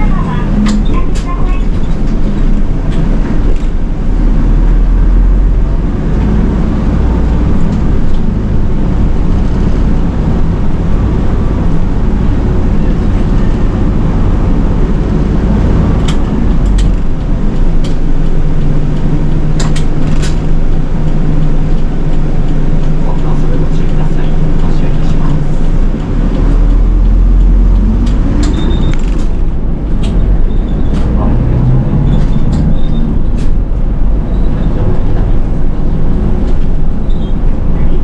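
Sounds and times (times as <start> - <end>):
bus engine rumble with road noise: 0.0 - 38.0.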